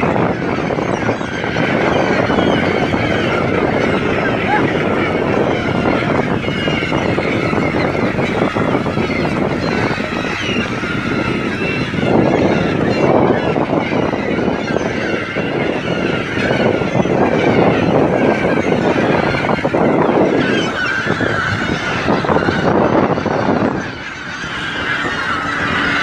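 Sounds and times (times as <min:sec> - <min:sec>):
flock of gulls calling: 0:00.0 - 0:26.0.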